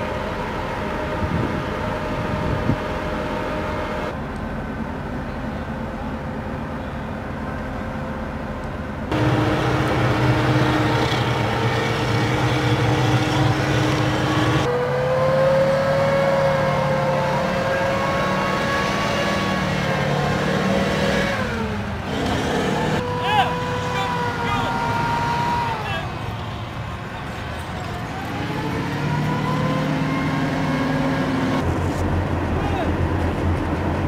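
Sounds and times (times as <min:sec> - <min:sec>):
drivetrain whine: 0:00.0 - 0:34.0
tracked vehicle engine drone: 0:00.0 - 0:34.0.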